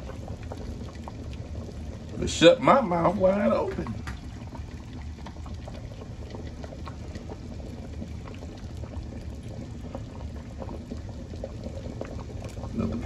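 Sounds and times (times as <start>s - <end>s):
broth bubbling with pops: 0.0s - 13.0s.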